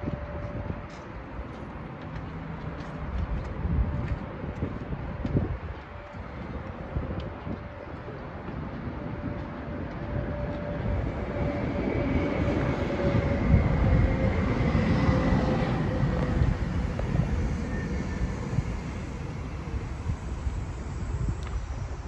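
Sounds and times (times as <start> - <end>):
train rumbling past: 0.0 - 22.0
faint whine: 3.0 - 22.0.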